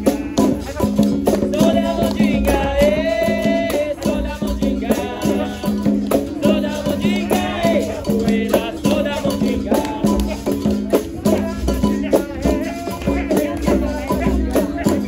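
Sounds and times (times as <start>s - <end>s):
berimbau: 0.0s - 15.0s
hand percussion beat: 0.0s - 15.0s
shaken rattle: 0.0s - 15.0s
voices singing: 0.0s - 15.0s.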